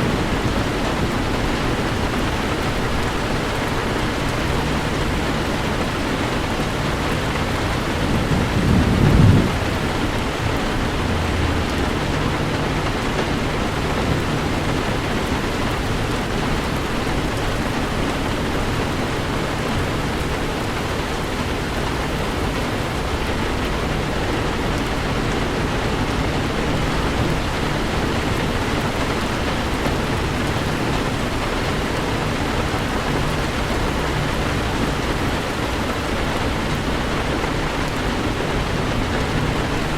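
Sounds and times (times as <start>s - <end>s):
heavy rain on a car: 0.0s - 39.9s
low rumble of thunder: 0.0s - 39.9s.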